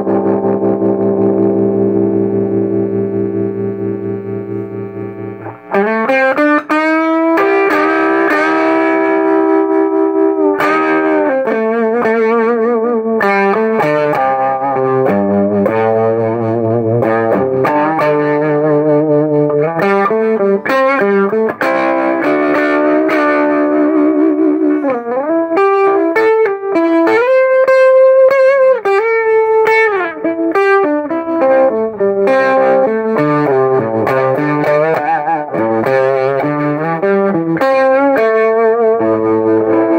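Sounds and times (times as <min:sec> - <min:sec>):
distorted electric guitar strumming: 0:00.0 - 0:39.9.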